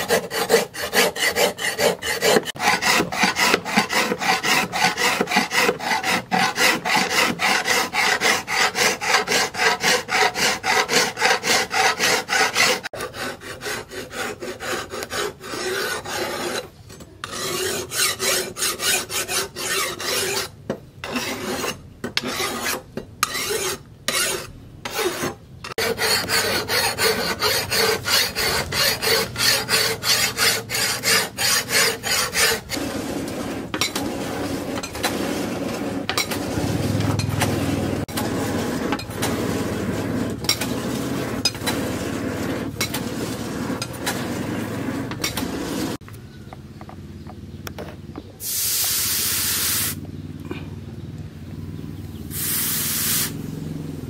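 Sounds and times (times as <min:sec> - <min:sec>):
hand file rasping on steel: 0:00.0 - 0:46.0.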